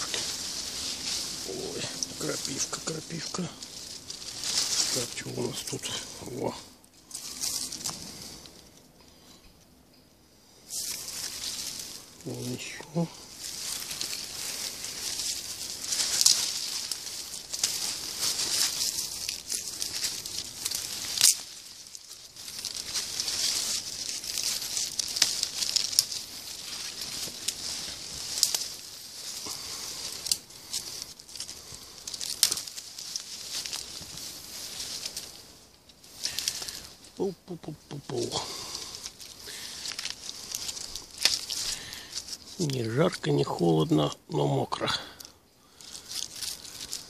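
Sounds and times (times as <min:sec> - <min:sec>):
twigs snapping: 0:00.0 - 0:08.9, 0:10.7 - 0:42.8, 0:45.1 - 0:47.0
leaves and twigs rustling: 0:00.0 - 0:47.0.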